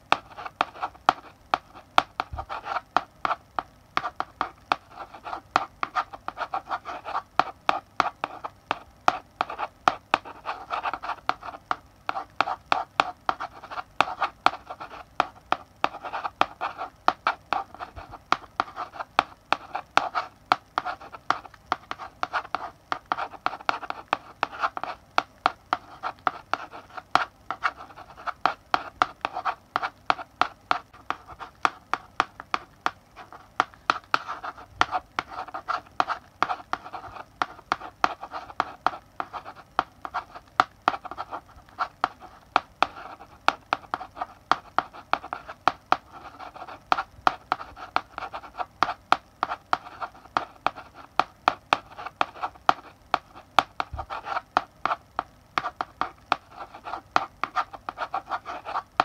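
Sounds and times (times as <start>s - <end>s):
chalk writing on a blackboard: 0.0s - 59.0s.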